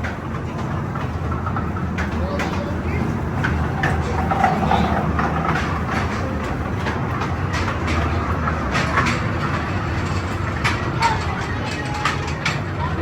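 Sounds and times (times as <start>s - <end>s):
train rumbling on rails: 0.0s - 13.0s
wheels clacking: 0.0s - 13.0s.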